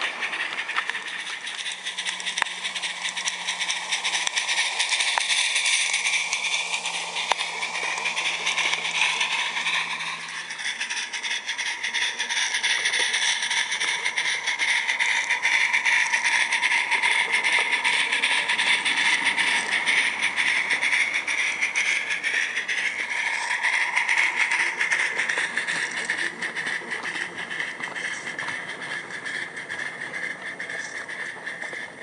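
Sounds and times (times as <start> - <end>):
steam locomotive chuffing: 0.0 - 32.0
wagons rattling on track: 0.0 - 32.0.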